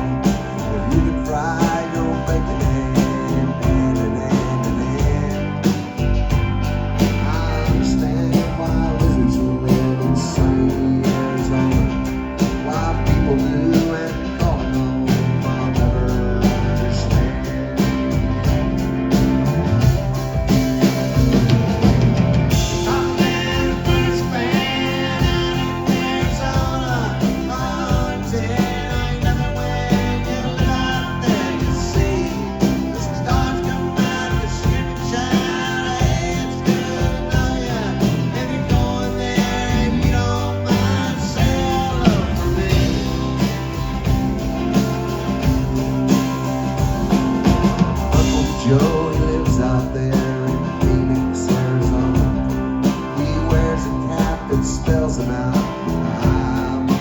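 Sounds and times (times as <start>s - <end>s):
country-rock band playing: 0.0s - 57.0s
lead melody with bent notes: 0.0s - 57.0s.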